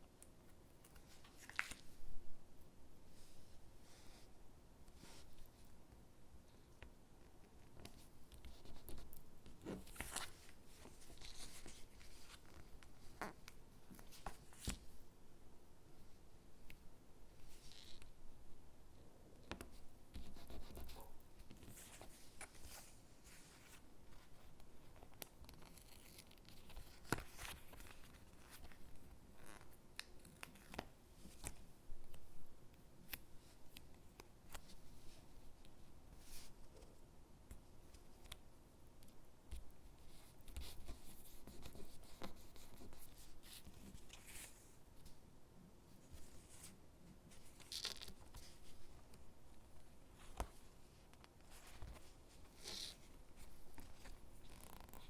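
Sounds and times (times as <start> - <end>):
soft paper rustling: 0.2 - 2.2, 3.1 - 15.0, 19.4 - 45.3, 45.9 - 55.0.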